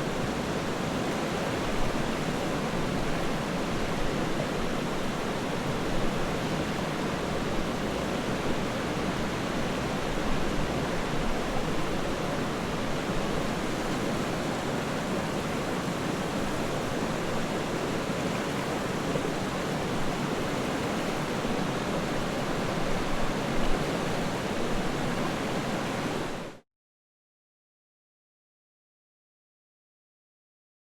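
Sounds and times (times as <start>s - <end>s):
river water rushing: 0.0s - 26.6s.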